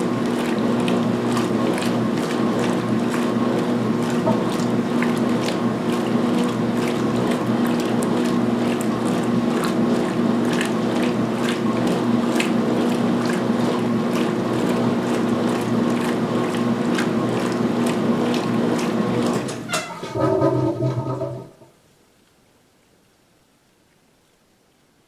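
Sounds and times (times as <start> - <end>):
washing machine motor hum: 0.0 - 21.7
water swishing: 0.0 - 21.7.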